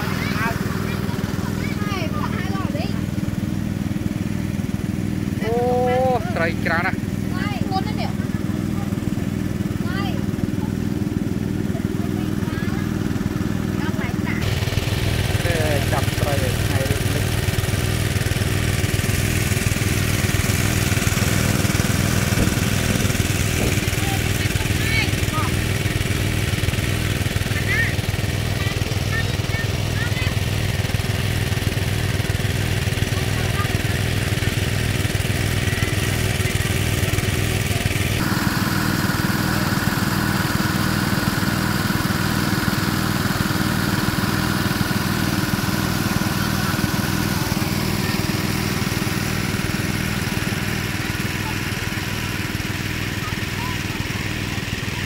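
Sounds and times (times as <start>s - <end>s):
small engine running pump: 0.0s - 55.0s
water gushing from pipes: 0.0s - 55.0s.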